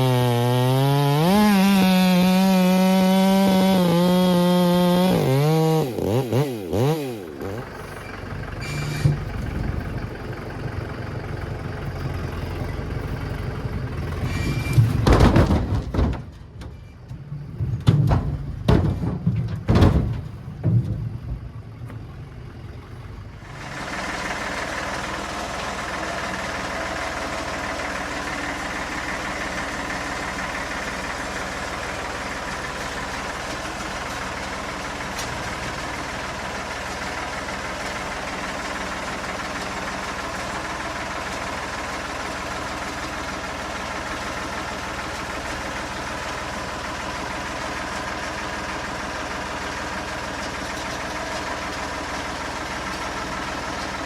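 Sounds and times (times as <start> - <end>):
vehicle engine idling: 7.3 - 54.0.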